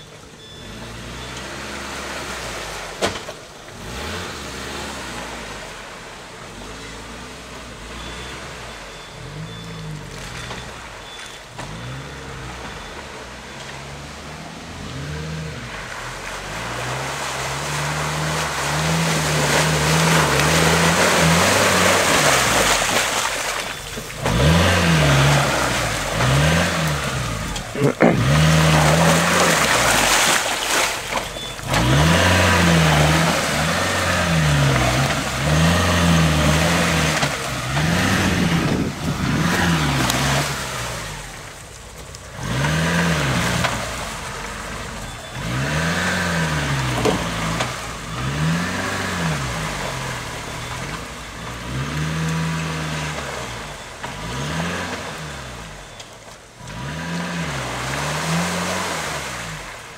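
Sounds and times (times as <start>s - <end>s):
engine revving: 0.0s - 59.9s
vehicle churning through mud: 0.0s - 59.9s.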